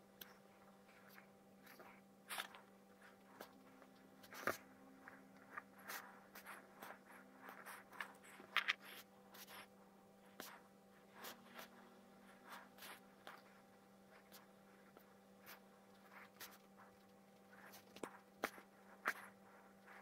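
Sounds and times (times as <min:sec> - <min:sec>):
paintbrush scratches and taps: 0:00.2 - 0:20.0.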